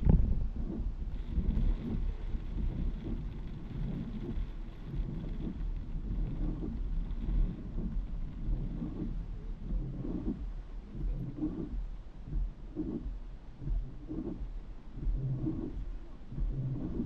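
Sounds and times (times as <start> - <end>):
road rumble: 0.0 - 17.0
heavy rain on car roof: 0.8 - 17.0.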